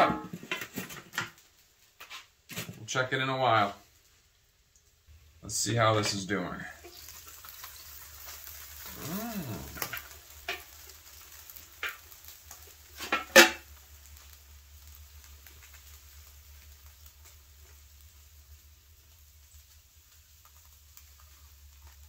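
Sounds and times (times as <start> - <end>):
wax sizzling in a pan: 0.0 - 22.0.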